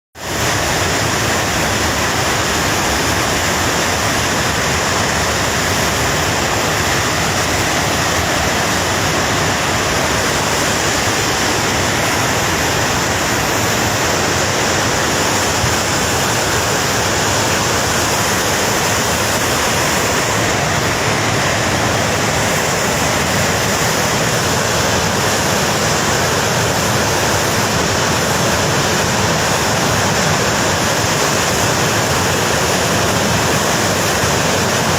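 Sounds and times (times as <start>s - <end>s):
floodwater rushing: 0.2s - 34.9s.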